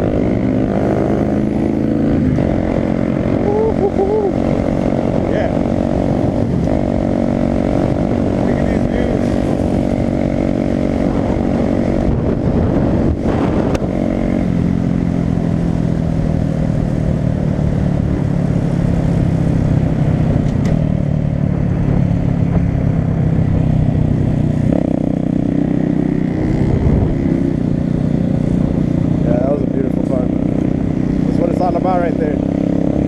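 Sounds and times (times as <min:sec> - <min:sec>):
small motorcycle engine running: 0:00.0 - 0:33.0.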